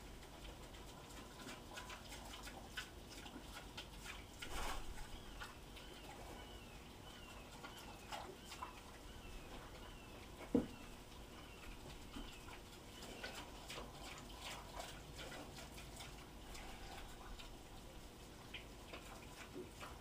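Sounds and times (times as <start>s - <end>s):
animals chewing from metal bowls: 0.0s - 20.0s.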